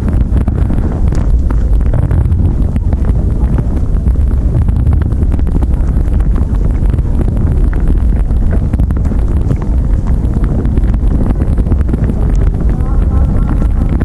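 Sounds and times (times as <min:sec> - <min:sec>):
low rumbling with crackling: 0:00.0 - 0:14.0.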